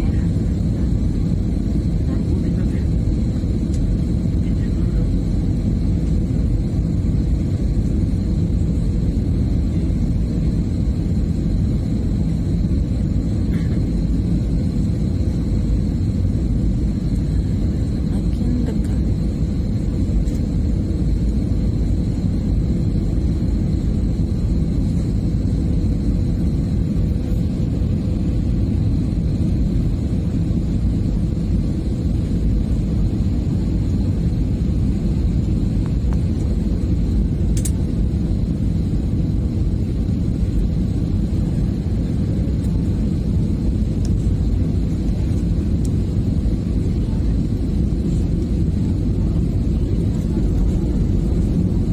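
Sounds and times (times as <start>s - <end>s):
airliner cabin engine rumble: 0.0s - 51.9s
faint high whine: 0.0s - 51.9s.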